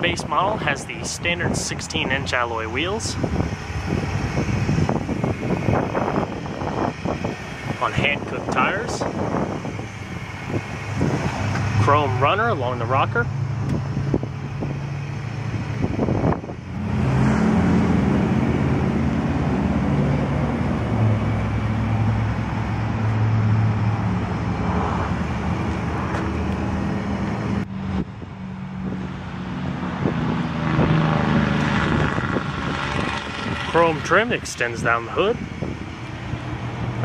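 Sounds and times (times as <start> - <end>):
car engine idling: 0.0 - 29.4, 31.5 - 37.0.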